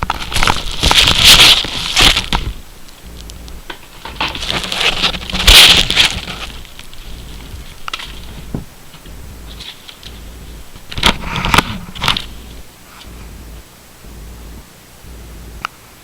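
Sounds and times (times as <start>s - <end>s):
packaging crackling: 0.0s - 13.2s.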